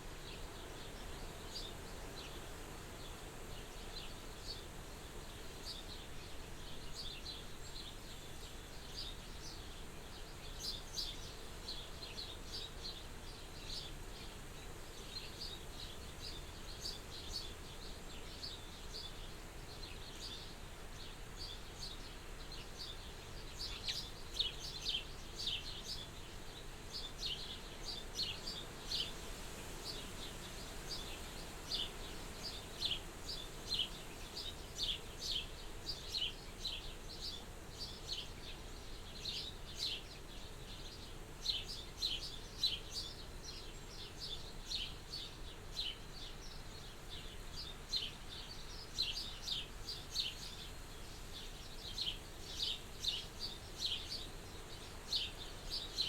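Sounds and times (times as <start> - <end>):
small birds chirping: 0.0 - 56.0
soft wind hiss: 0.0 - 56.0.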